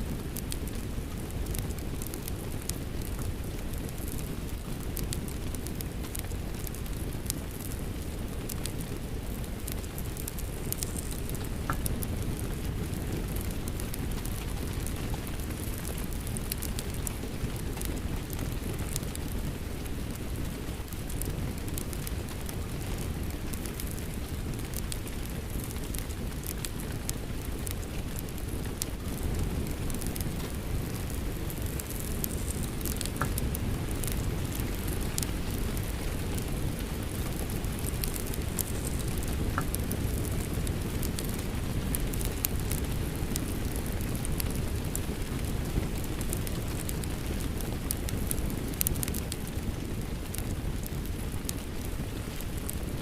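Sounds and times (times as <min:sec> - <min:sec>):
wood fire crackling: 0:00.0 - 0:53.0
rain falling: 0:06.2 - 0:52.8.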